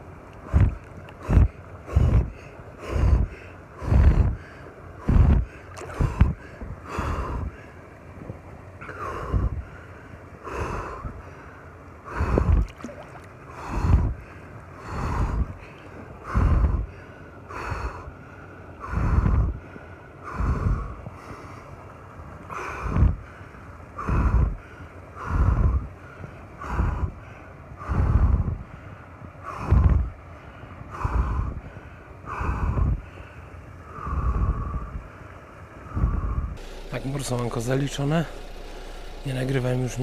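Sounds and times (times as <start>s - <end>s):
man breathing hard: 0.4s - 7.9s, 8.8s - 12.7s, 13.5s - 21.9s, 22.5s - 37.0s.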